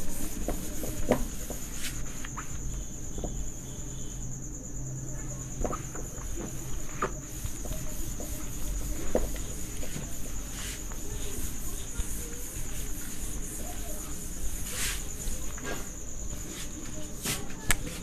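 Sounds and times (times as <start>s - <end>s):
cloth wiping a whiteboard: 0.0s - 3.9s, 5.5s - 17.6s.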